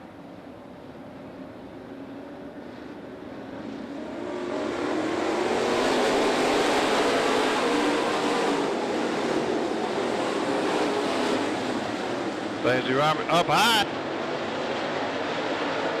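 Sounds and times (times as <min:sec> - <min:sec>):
race car engines roaring: 0:02.3 - 0:16.0.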